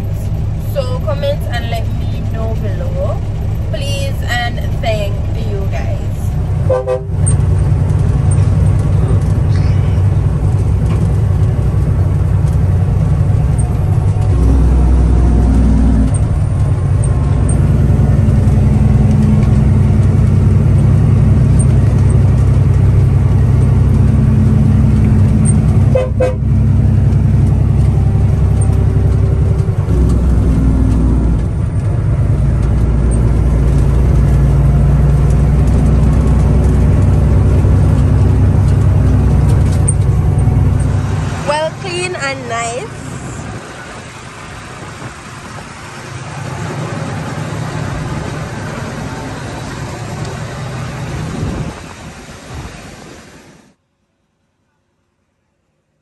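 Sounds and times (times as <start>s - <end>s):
diesel engine droning: 0.0s - 53.7s.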